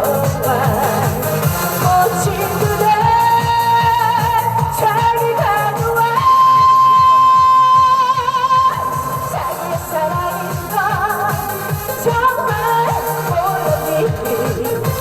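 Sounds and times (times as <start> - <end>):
backing track with steady beat: 0.0 - 15.0
woman singing: 0.0 - 15.0.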